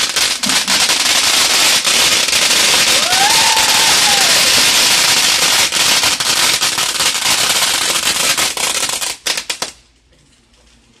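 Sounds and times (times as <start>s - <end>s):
firework fountain hissing spray: 0.0s - 9.8s
sharp firework cracks: 0.0s - 9.8s.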